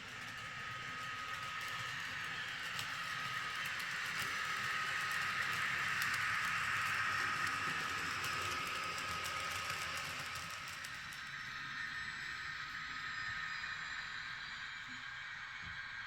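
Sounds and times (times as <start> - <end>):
model train motor whine: 0.0 - 16.0
wheels hissing on rails: 0.0 - 16.0.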